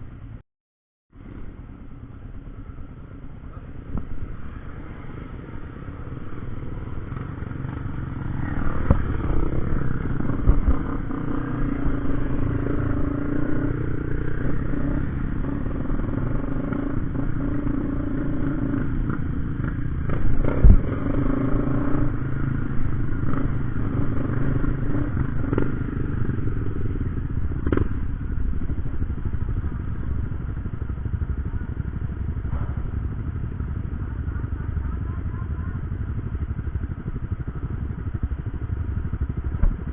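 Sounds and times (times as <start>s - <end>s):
motorcycle engine running: 1.2s - 39.9s.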